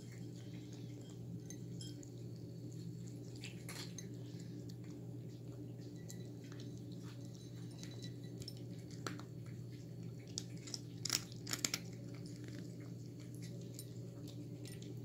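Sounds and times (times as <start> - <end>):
cat chewing from a ceramic bowl: 0.0 - 15.0
steady low hum: 0.0 - 15.0.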